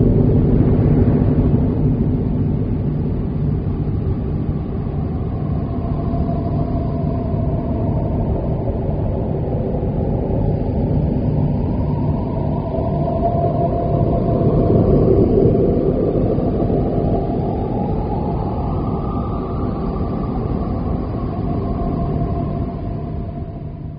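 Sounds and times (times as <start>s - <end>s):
low droning music: 0.0s - 23.9s.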